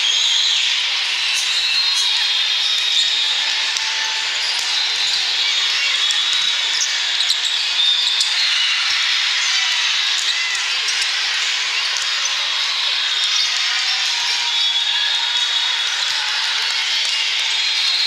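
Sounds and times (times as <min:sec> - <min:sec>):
crowd noise echoing: 0:00.0 - 0:18.0.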